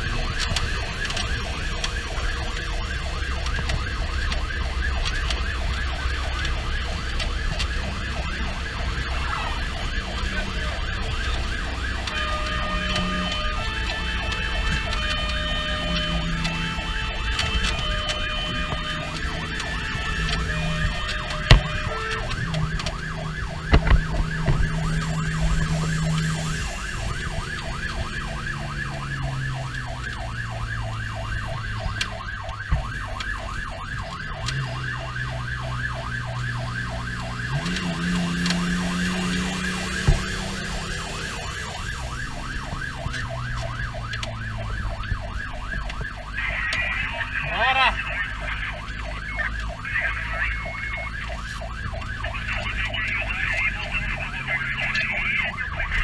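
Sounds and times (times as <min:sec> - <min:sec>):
fire engine siren: 0:00.0 - 0:56.0
truck engine: 0:00.0 - 0:56.0.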